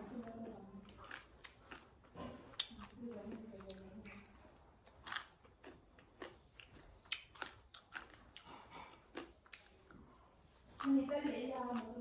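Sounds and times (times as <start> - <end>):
chewing food with crunches: 0.0 - 12.0.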